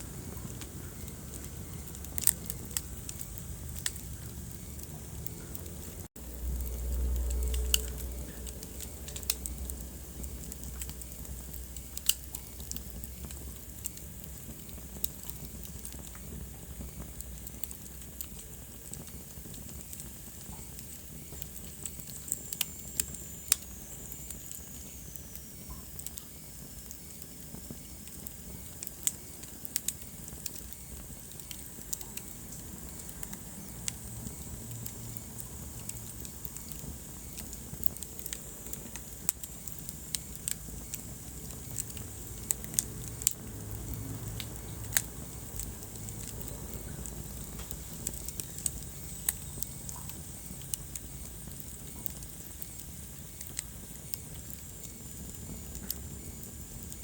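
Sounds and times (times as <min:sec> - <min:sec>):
low rumble of flame: 0:00.0 - 0:57.0
wood fire crackling: 0:00.0 - 0:57.0.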